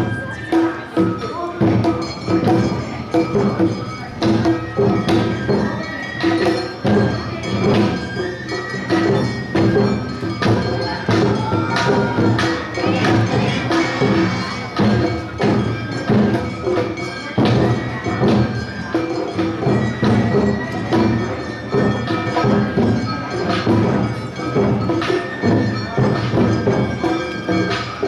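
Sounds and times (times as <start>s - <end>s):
drums marching beat: 0.0s - 28.0s.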